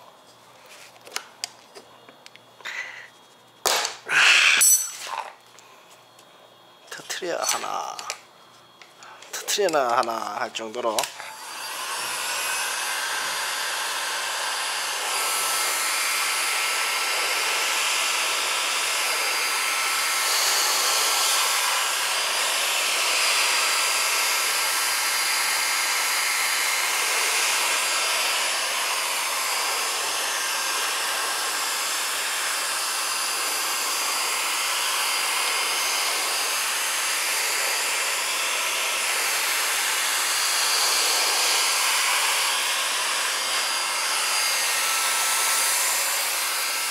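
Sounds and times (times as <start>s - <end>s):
hot-air blower rushing: 6.9s - 46.9s.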